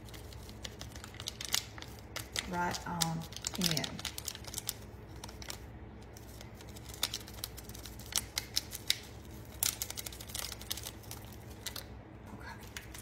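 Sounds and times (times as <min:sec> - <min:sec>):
foil packet crinkling: 0:00.0 - 0:12.0.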